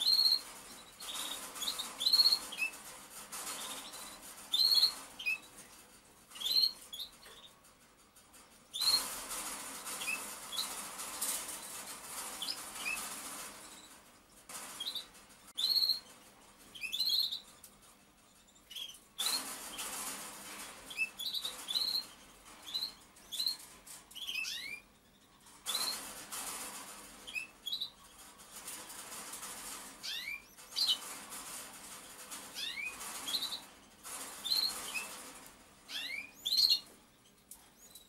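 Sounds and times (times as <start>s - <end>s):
rustling: 0.0s - 38.0s.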